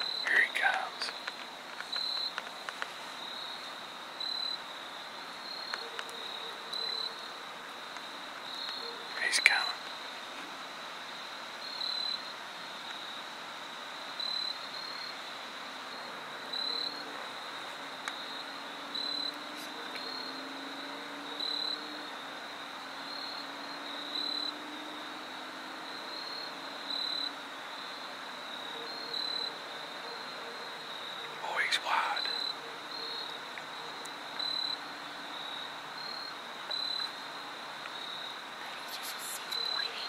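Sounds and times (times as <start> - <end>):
faint outdoor hiss: 0.0 - 40.0
insect chirp: 0.0 - 40.0
insects trilling: 0.0 - 40.0.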